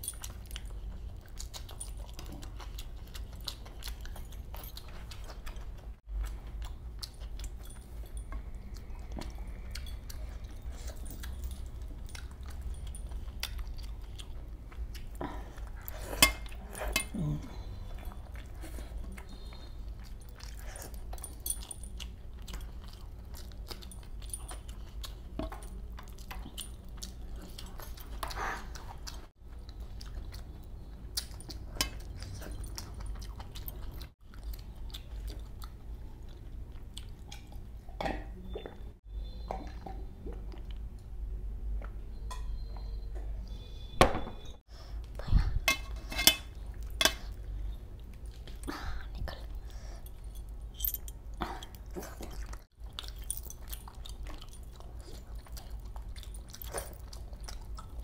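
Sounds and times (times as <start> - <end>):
person chewing with wet clicks: 0.0 - 43.6, 46.4 - 58.0
low steady hum: 0.0 - 58.0.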